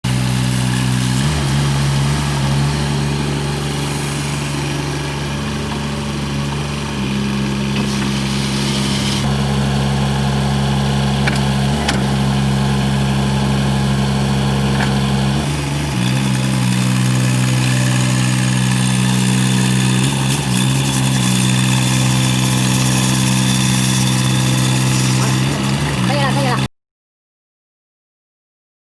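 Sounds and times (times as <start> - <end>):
small diesel engine running: 0.0 - 26.7.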